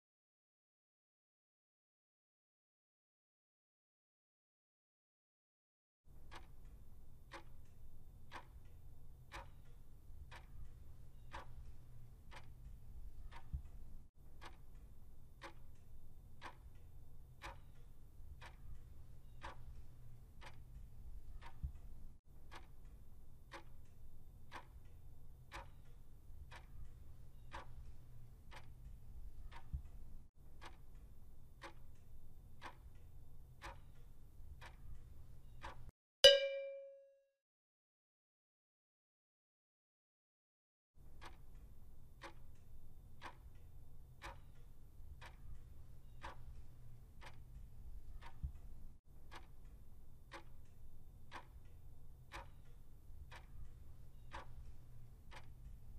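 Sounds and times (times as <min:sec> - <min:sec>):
clock ticking: 0:06.1 - 0:36.8, 0:41.0 - 0:55.9.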